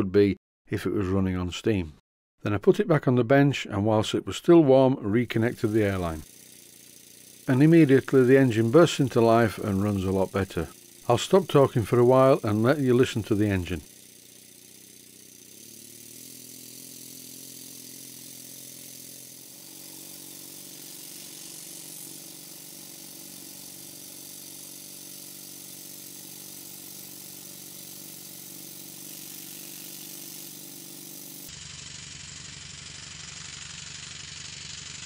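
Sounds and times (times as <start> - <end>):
model steam engine running: 5.3 - 35.0.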